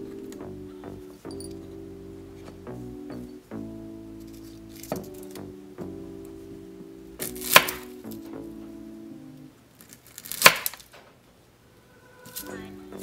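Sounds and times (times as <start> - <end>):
background music with held notes: 0.0 - 9.6, 12.1 - 13.0.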